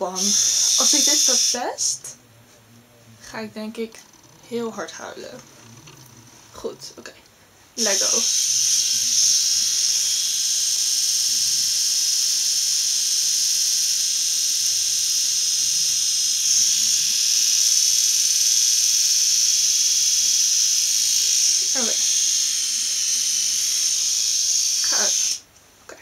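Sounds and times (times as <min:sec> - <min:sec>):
eyebrow trimmer whining: 0:00.0 - 0:02.2, 0:03.2 - 0:06.6, 0:07.8 - 0:25.5.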